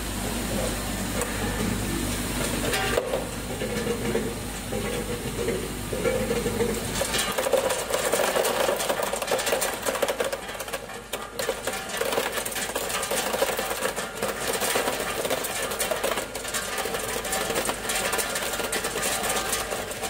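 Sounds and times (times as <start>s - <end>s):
ice pieces clattering into tub: 2.7s - 20.0s.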